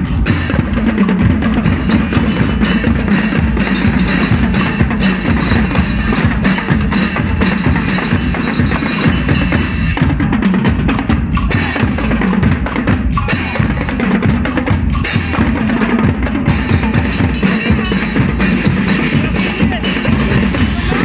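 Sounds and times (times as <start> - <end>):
deep bass drum beats: 0.0 - 21.0
marching drums: 0.0 - 21.0.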